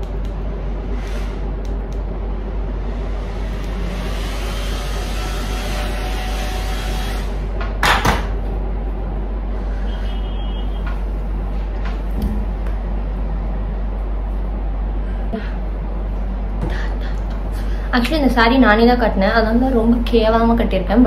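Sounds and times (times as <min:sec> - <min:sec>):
small electric fan whirring: 0:00.0 - 0:21.0.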